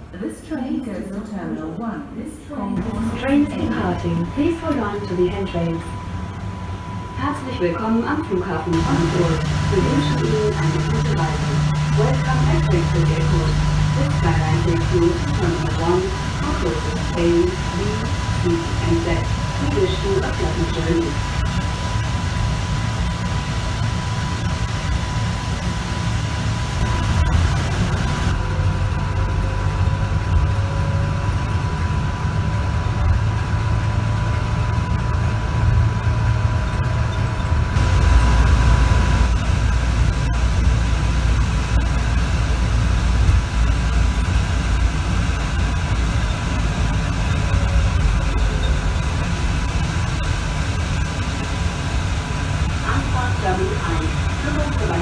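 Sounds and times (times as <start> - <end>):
thin high whine: 2.8 - 55.0.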